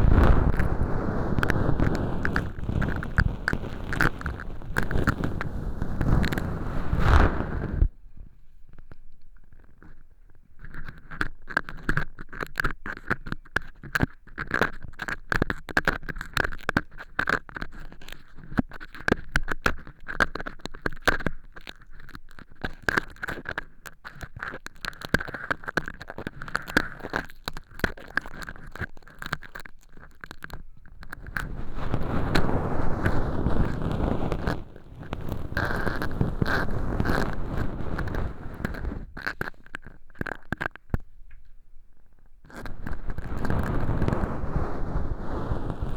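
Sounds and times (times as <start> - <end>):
continuous rubbing noise: 0.0 - 8.0, 8.7 - 41.1, 42.0 - 45.9
earpick scraping fake earwax: 0.2 - 7.7, 10.6 - 41.0, 42.5 - 45.9.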